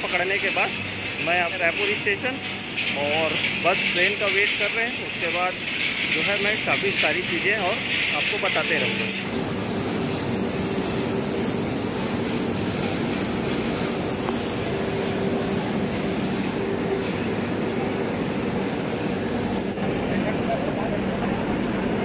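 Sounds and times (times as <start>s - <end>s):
train running with steady hum: 0.0s - 22.0s.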